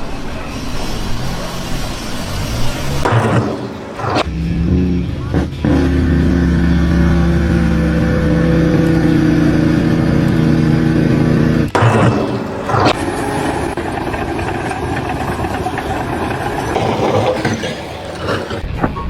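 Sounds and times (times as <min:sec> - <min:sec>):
engine running: 0:01.2 - 0:18.6.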